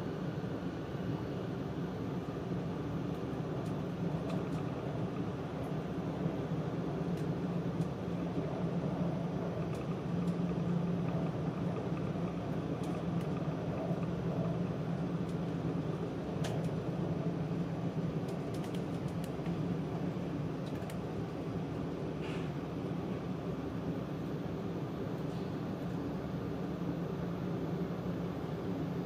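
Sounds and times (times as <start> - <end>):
train cabin running hum: 0.0 - 29.0.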